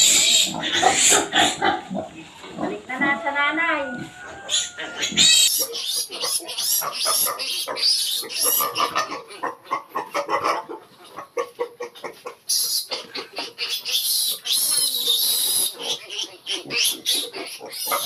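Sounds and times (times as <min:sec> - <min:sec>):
piglets squealing: 0:00.0 - 0:01.9, 0:03.9 - 0:18.0.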